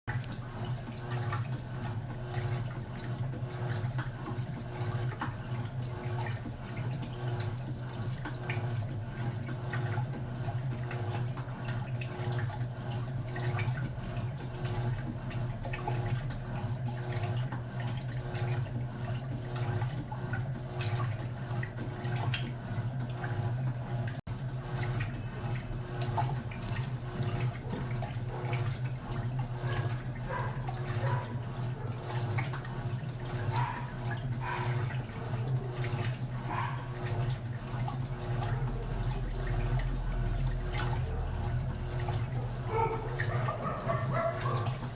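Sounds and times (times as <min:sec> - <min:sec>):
washing machine motor hum: 0:00.1 - 0:44.9
water churning and splashing: 0:00.1 - 0:44.9.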